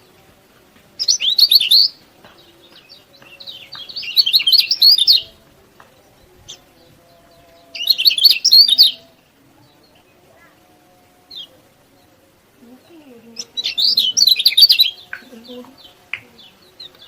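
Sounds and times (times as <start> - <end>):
bird twittering chirps: 1.0 - 5.4, 6.0 - 10.2, 11.2 - 17.0.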